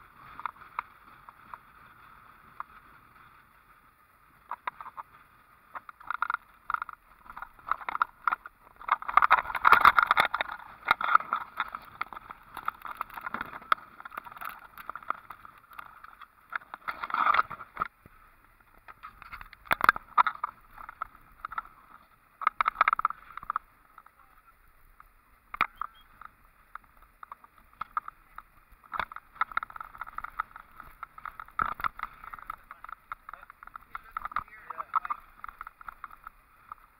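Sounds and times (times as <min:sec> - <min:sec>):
vehicle driving on rough dirt road: 0:00.0 - 0:36.9.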